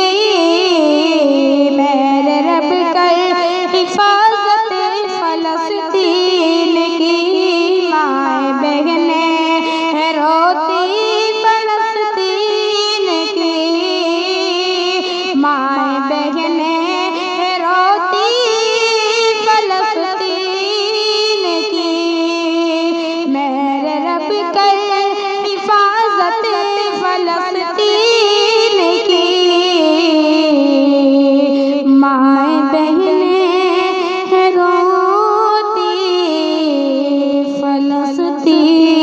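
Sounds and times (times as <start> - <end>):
boy singing into a microphone: 0.0 - 39.0.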